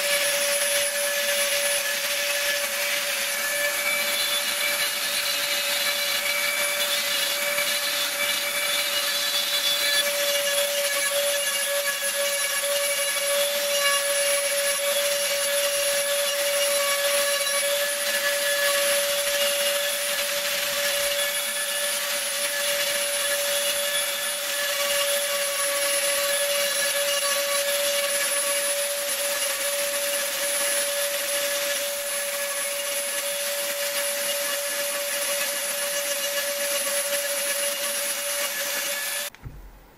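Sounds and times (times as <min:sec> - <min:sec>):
rotary tool grinding stone: 0:00.0 - 0:39.3.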